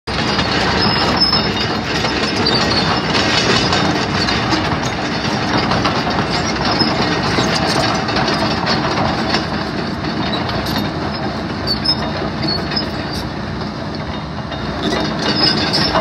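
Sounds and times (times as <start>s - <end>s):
diesel engine running: 0.1s - 16.0s
track chains clanking: 0.1s - 16.0s.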